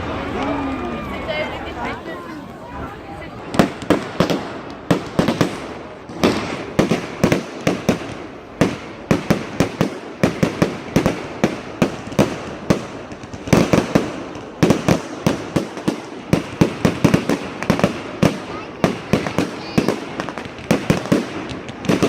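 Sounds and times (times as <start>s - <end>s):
fireworks exploding: 0.0s - 22.0s.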